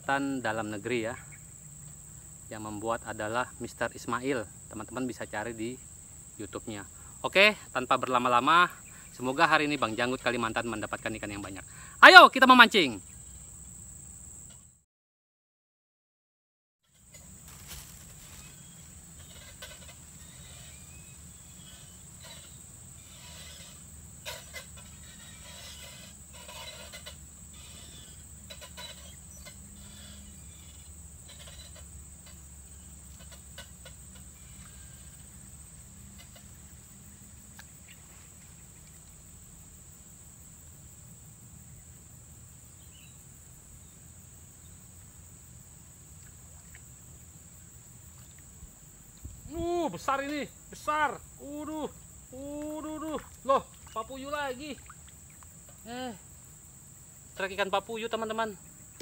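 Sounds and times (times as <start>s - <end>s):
high-pitched insect drone: 0.0s - 14.8s, 16.8s - 59.0s.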